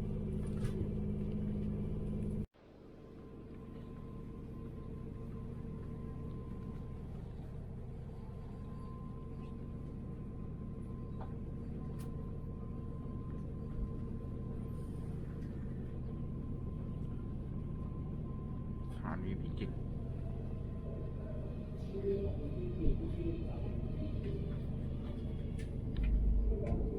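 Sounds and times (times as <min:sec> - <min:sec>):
train rumble inside carriage: 0:00.0 - 0:26.9.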